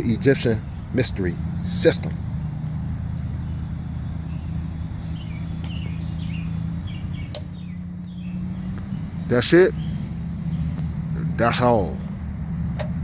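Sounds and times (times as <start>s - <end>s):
bird chirps: 0.0s - 12.1s
low mechanical hum: 0.0s - 13.0s.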